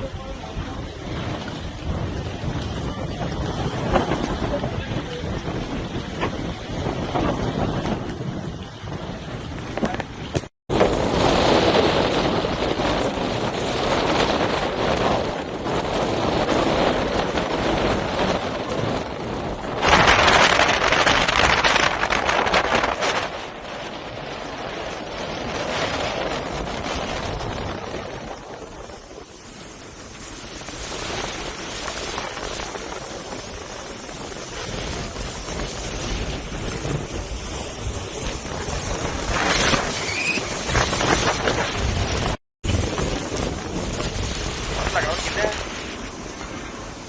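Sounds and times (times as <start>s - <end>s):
crashing sea surf: 0.0s - 47.0s
wind buffeting microphone: 0.0s - 47.0s.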